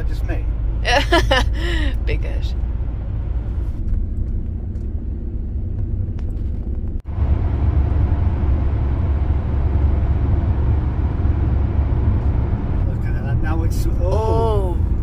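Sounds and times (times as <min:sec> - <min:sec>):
van road noise rumble: 0:00.0 - 0:15.0.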